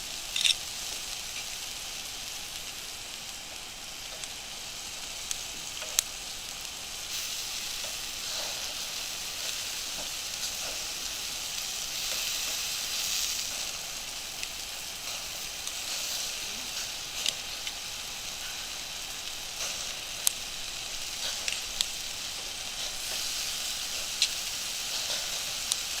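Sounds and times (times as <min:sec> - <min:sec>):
fire popping: 0:00.0 - 0:26.0
meat sizzling over fire: 0:00.0 - 0:26.0.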